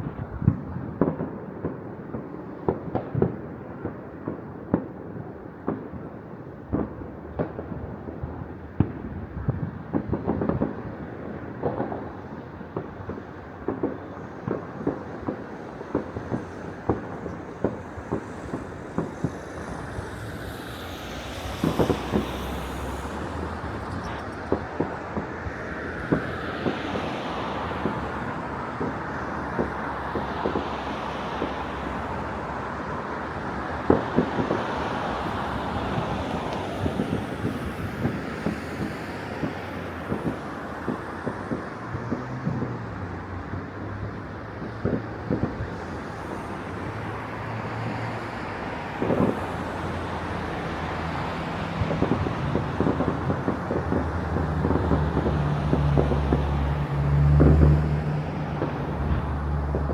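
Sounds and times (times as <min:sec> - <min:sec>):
distant fireworks bangs: 0:00.0 - 0:59.9
urban traffic noise: 0:00.0 - 0:59.9.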